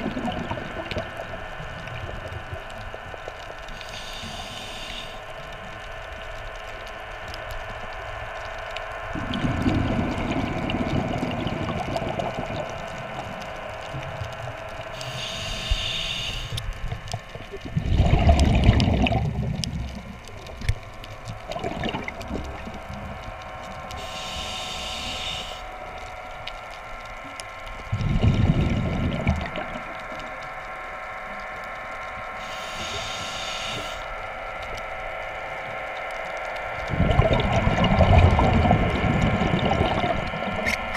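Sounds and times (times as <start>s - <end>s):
electric motor whine underwater: 0.0s - 40.9s.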